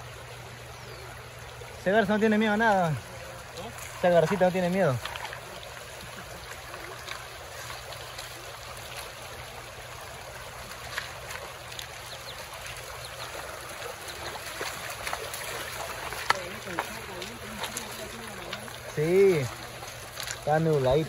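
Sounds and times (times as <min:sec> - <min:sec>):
river rushing over stones: 0:01.8 - 0:21.0
splashes of wading feet: 0:02.6 - 0:21.0.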